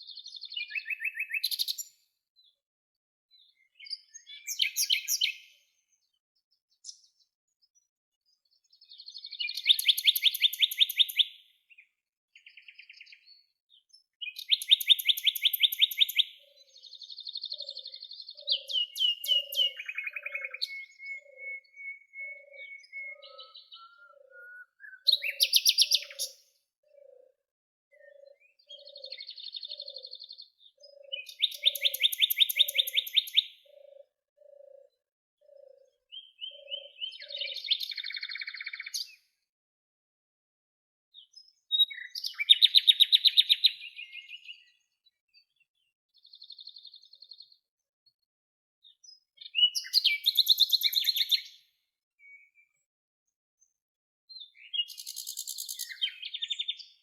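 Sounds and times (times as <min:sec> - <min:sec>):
songbirds trilling and chirping: 0:00.0 - 0:02.7, 0:03.3 - 0:39.5, 0:41.1 - 0:57.0.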